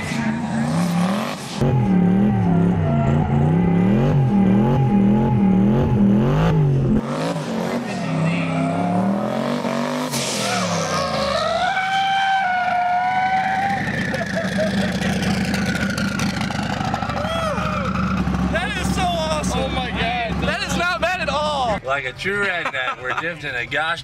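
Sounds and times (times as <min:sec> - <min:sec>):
car engine revving: 0:00.0 - 0:21.8.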